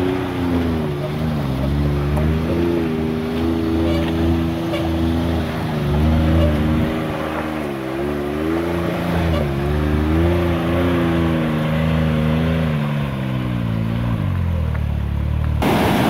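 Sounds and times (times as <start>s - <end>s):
engine pulling at low revs: 0.0s - 16.0s.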